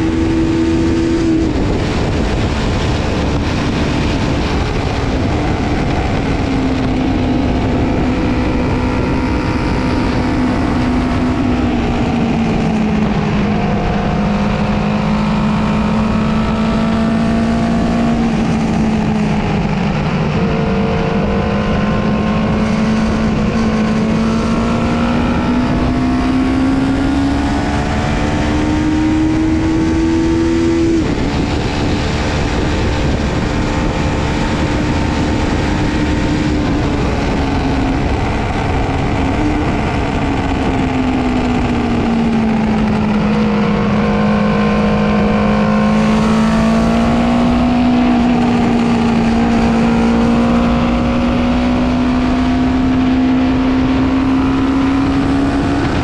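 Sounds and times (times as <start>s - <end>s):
motorcycle engine revving: 0.0s - 56.0s
wind rush: 0.0s - 56.0s.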